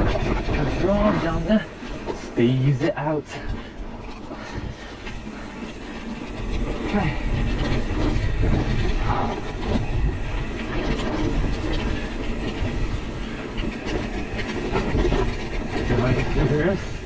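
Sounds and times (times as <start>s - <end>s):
mountain bike rattling: 0.0s - 17.0s
tyres rolling on dirt: 0.0s - 17.0s
wind buffeting microphone: 0.0s - 17.0s.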